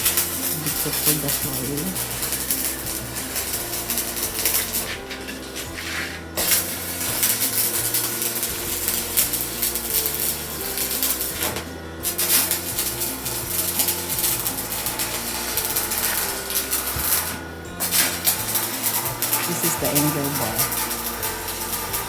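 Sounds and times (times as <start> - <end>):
background music with fast beat: 0.0 - 22.0.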